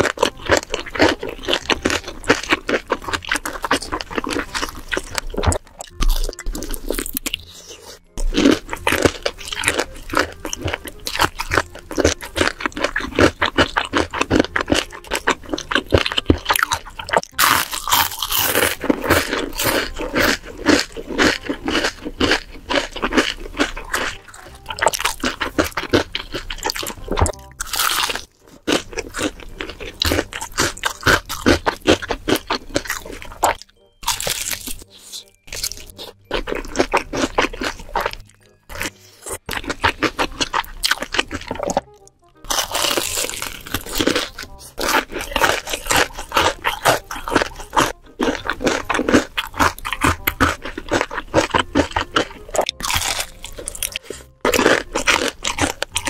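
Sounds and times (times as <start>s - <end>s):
crunching fried chicken: 0.0s - 56.0s.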